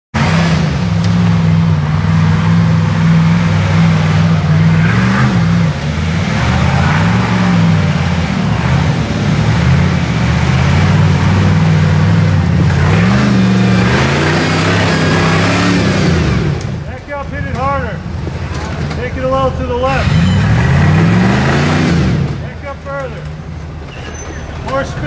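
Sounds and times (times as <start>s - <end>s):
buggy engine revving: 0.1s - 25.0s.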